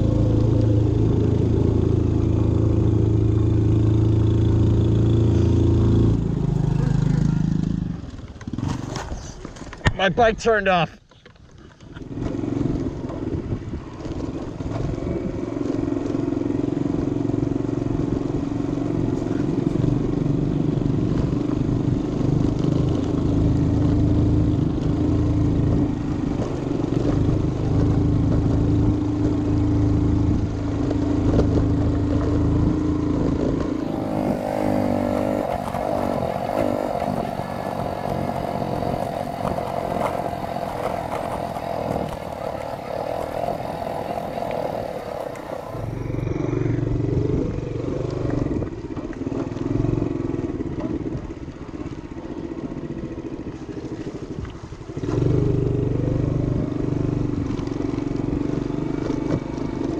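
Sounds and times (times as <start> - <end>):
motorbike engine running: 0.0 - 9.0, 12.0 - 59.9.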